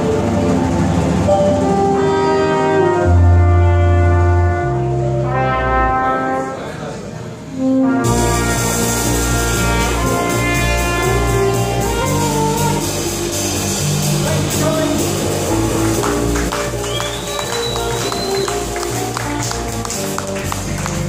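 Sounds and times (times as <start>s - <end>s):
drums and cymbals: 0.0s - 5.0s, 8.0s - 21.0s
electric bass: 0.0s - 6.6s, 7.5s - 21.0s
brass horn melody: 0.0s - 21.0s.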